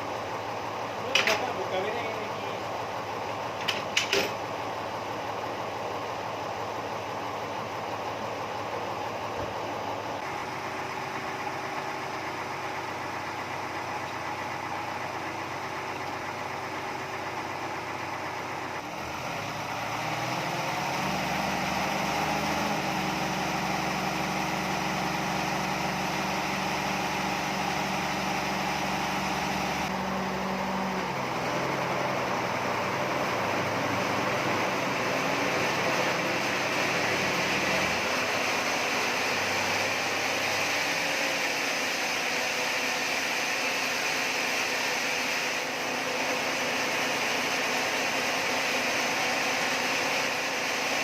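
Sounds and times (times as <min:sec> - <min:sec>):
sawmill machinery running: 0:00.0 - 0:51.0.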